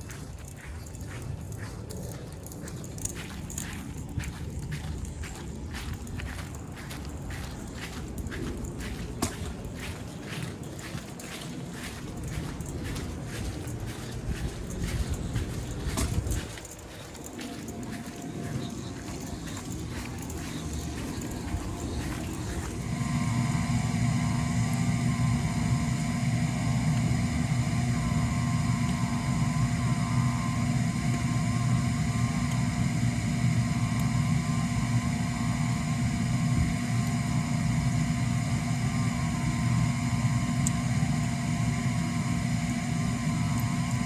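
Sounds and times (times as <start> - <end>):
motor humming with whine: 0.0 - 44.0.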